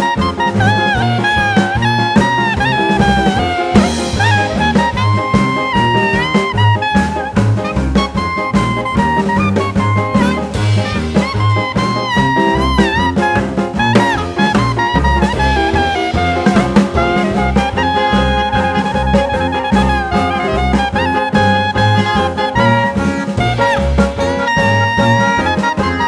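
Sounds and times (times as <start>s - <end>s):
jazz music: 0.0s - 26.0s.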